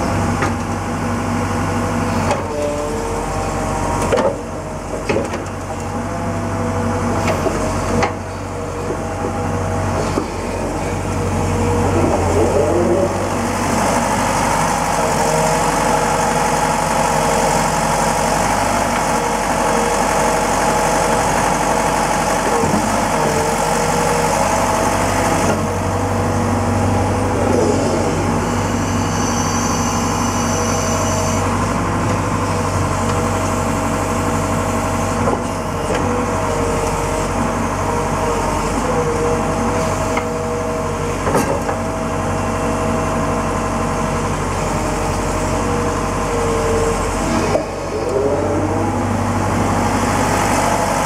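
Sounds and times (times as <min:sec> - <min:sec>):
excavator diesel engine whining: 0:00.0 - 0:51.0.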